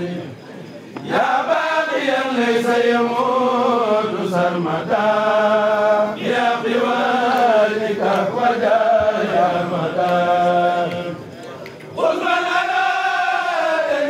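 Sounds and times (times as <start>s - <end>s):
male voices chanting in unison: 0.0s - 14.0s.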